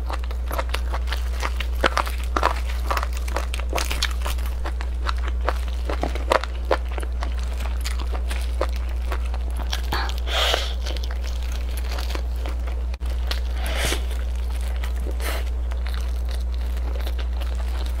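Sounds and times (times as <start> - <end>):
chewing fried fish: 0.0 - 18.0
plastic gloves crinkling: 0.0 - 18.0
steady low hum: 0.0 - 18.0.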